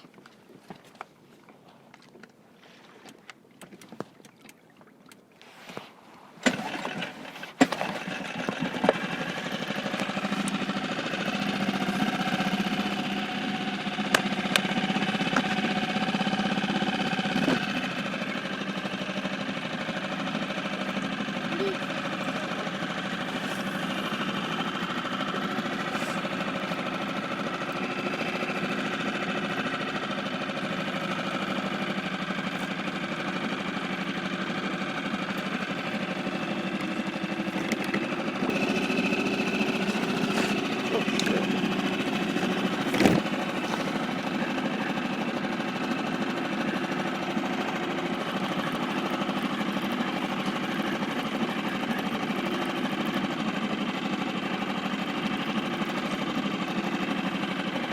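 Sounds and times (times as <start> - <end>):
outboard motor running: 0.0 - 57.9.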